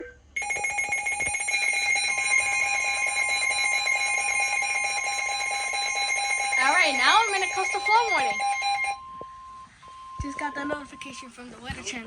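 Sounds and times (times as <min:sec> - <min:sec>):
shrill pulsing electronic alarm tone: 0:00.4 - 0:10.8.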